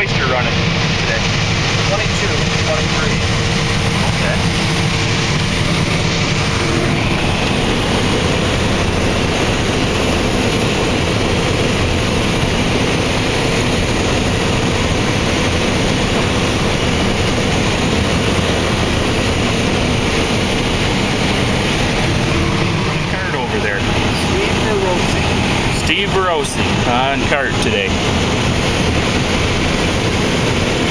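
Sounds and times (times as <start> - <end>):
combine harvester running: 0.0 - 30.9.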